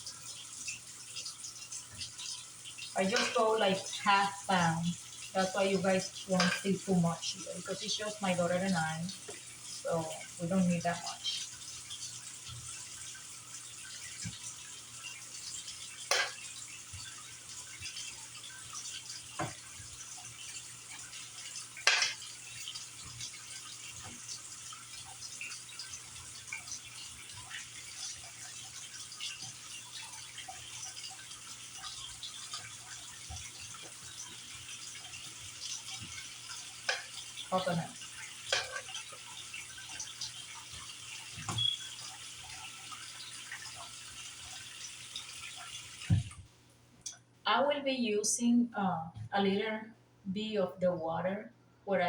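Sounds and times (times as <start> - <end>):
running water splashing: 0.0 - 46.5.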